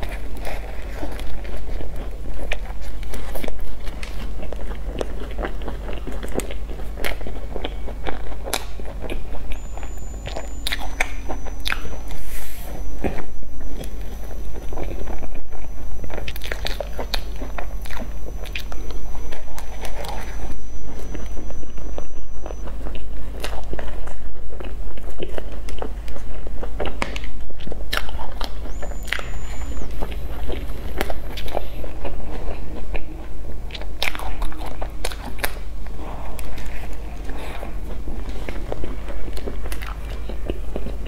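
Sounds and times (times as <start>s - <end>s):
crunchy pastry chewing: 0.0s - 41.0s.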